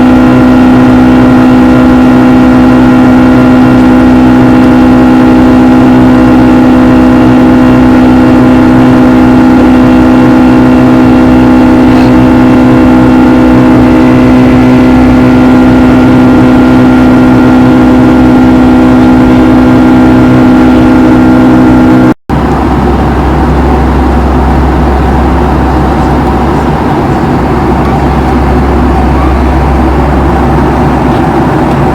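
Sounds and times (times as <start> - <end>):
jet engine cabin drone: 0.0 - 31.9.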